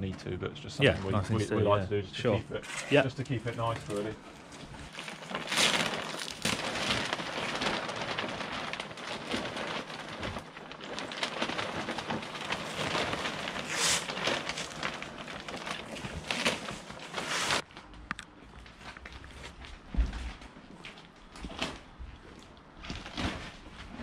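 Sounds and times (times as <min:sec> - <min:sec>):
plastic shrink wrap crinkling: 0:03.2 - 0:20.0, 0:20.8 - 0:24.0.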